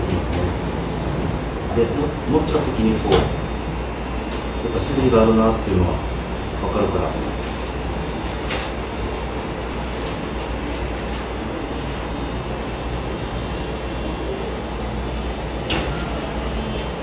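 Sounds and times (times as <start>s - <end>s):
machine hum with rushing noise: 0.0s - 17.0s.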